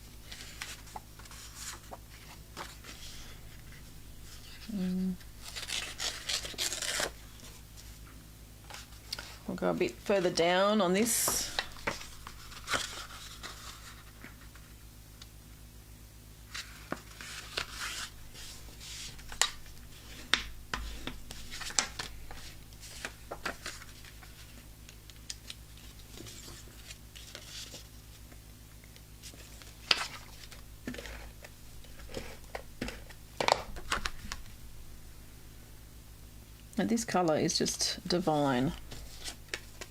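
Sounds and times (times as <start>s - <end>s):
low steady hum: 0.0s - 39.9s
paper rustling: 0.2s - 4.8s, 5.4s - 9.4s, 11.0s - 14.8s, 16.5s - 34.5s, 38.3s - 39.9s.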